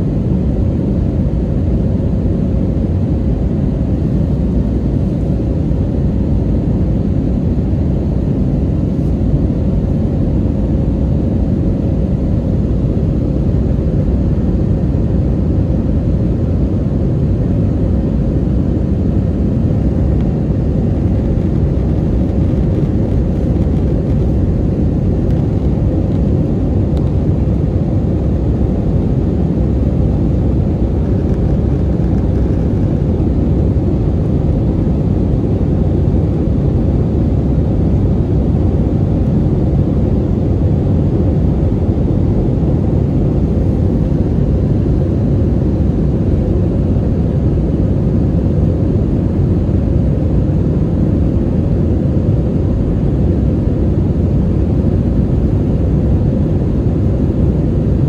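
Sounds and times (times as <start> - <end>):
jet engine cabin noise: 0.0 - 58.0.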